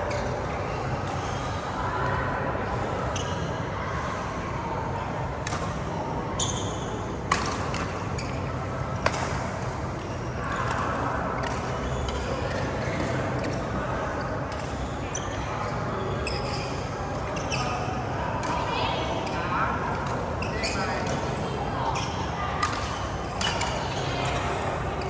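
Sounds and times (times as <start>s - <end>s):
sports hall background noise: 0.0s - 25.0s.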